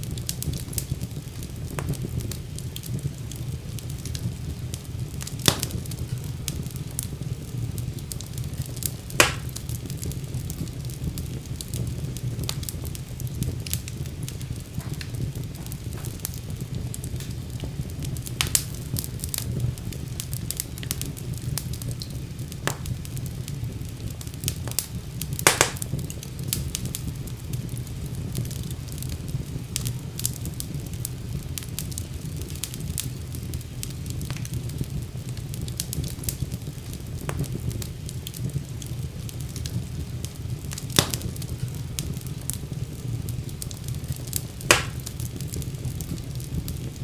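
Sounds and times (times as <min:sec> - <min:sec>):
fire crackling and popping: 0:00.0 - 0:47.0
fire flames rumbling: 0:00.0 - 0:47.0.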